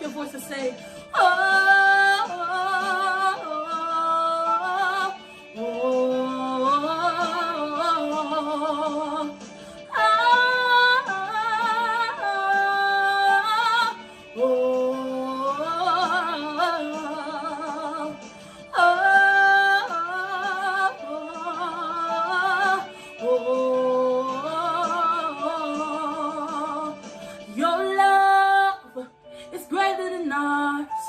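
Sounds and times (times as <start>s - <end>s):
woman singing with vibrato: 0.0s - 31.0s
worship music: 0.0s - 31.0s.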